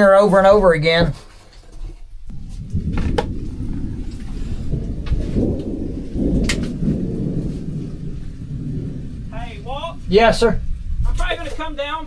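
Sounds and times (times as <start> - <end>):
thunder rumbling: 2.0 - 12.0
heavy rain: 2.3 - 12.0.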